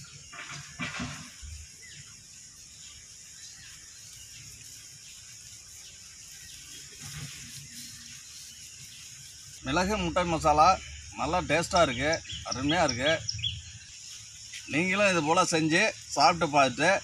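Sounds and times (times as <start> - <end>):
high outdoor hiss: 0.0 - 17.0.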